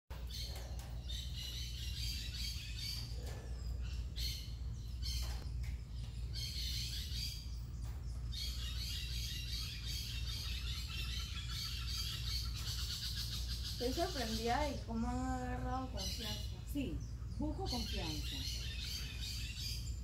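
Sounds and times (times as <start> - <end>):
high-pitched chirping calls: 0.2 - 20.0.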